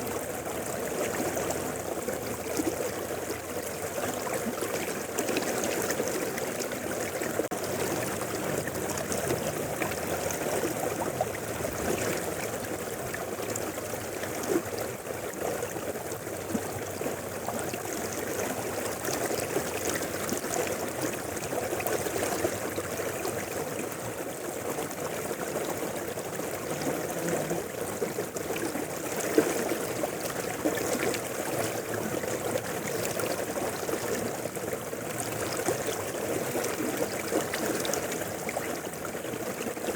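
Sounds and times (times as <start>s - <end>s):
mountain river flowing: 0.0s - 39.9s.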